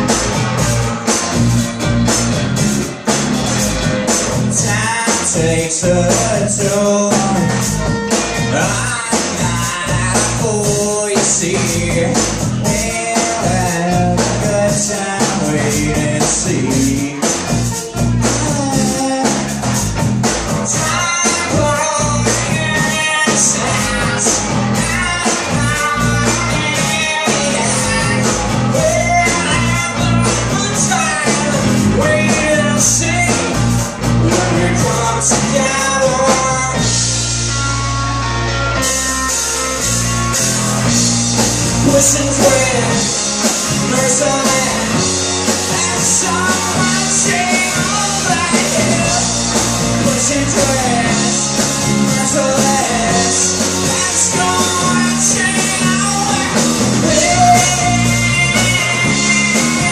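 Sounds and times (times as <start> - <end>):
drum kit: 0.0 - 59.9
electric bass: 0.0 - 59.9
electric guitar: 0.0 - 59.9
male lead vocal: 4.4 - 19.8, 20.5 - 37.1, 41.6 - 59.9.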